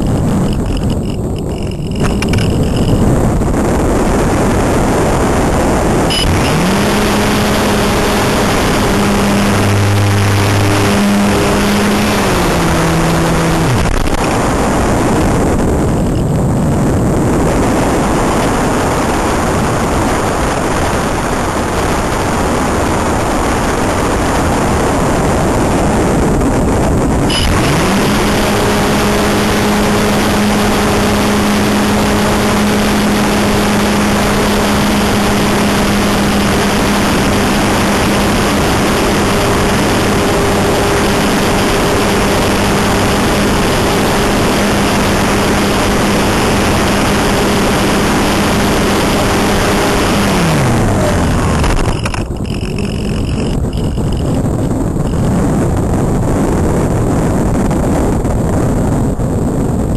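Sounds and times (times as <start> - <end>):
electric motor and propeller hum: 0.0 - 20.2, 27.2 - 55.4
wind rushing: 0.0 - 59.9.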